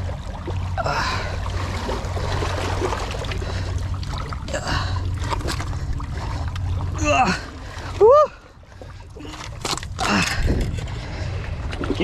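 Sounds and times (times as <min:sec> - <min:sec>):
seawater sloshing among rocks: 0:00.0 - 0:12.0
water splashes: 0:00.0 - 0:12.0.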